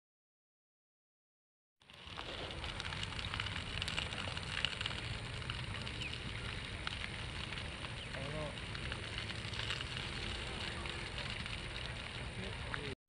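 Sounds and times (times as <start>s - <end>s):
grass fire crackling: 1.8s - 13.0s.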